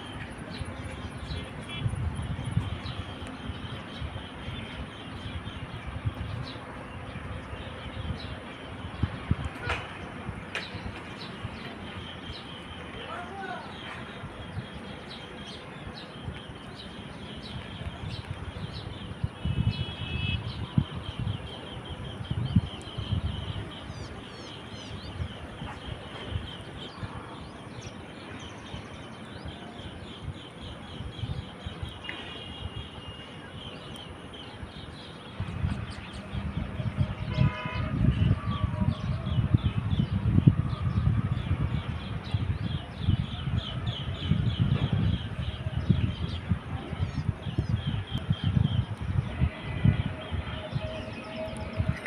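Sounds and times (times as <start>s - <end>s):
birds chirping in trills: 0.0s - 52.0s.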